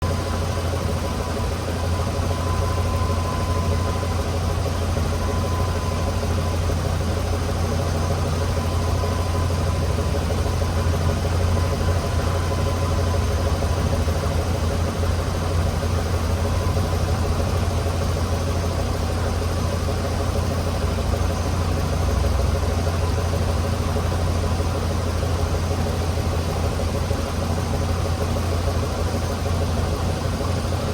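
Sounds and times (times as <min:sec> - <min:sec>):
bus engine idling: 0:00.0 - 0:30.9.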